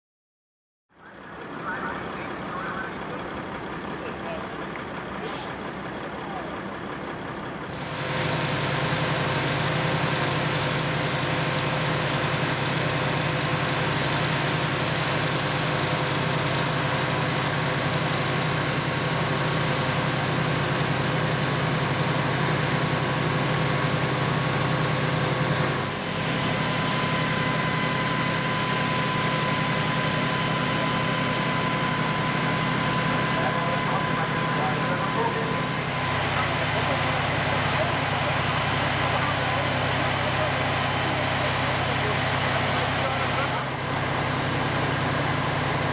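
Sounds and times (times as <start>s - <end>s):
diesel engine running: 0.9s - 45.9s
engine whine: 0.9s - 45.9s.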